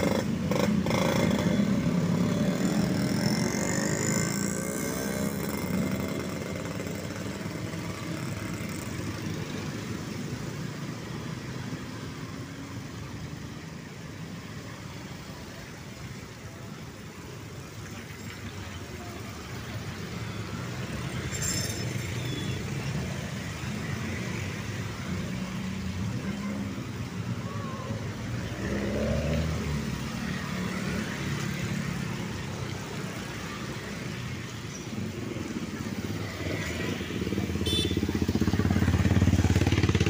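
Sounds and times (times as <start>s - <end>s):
cars passing: 0.0s - 40.0s
motorcycle and scooter engines: 0.0s - 40.0s.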